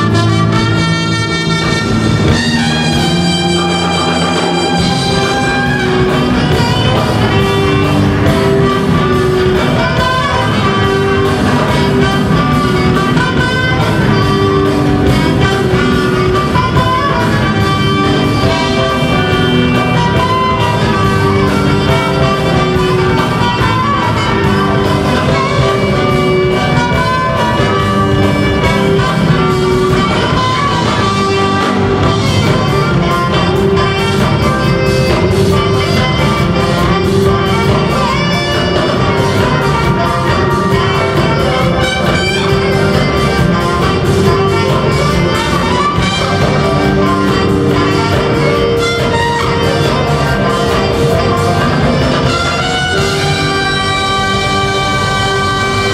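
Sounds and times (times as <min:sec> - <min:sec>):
jazz fusion band playing: 0:00.0 - 0:55.9
saxophones: 0:00.0 - 0:55.9
trumpet: 0:00.0 - 0:55.9.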